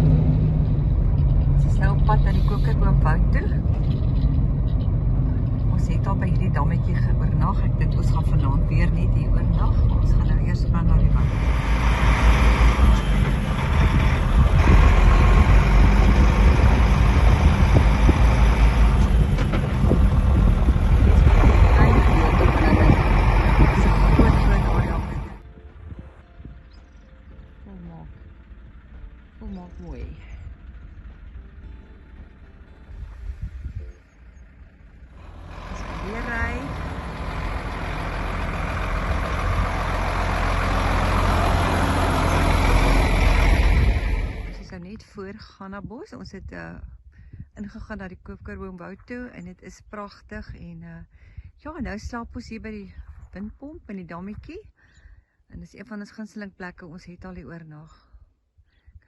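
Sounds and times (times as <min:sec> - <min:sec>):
vehicle engine and road rumble: 0:00.0 - 0:58.6.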